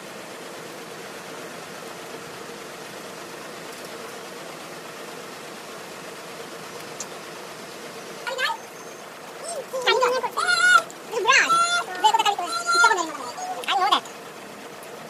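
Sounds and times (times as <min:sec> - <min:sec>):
faint steady hum: 0:00.0 - 0:15.0
steady hiss: 0:00.0 - 0:15.0.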